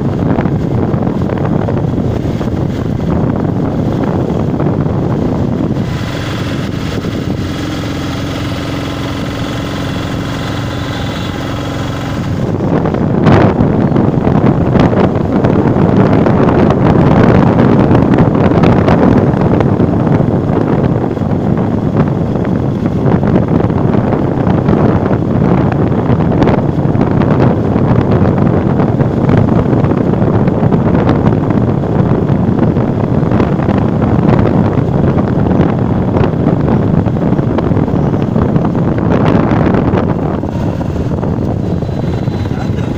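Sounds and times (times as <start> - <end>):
road and motor noise: 0.0 - 42.9
wind buffeting microphone: 0.0 - 42.9.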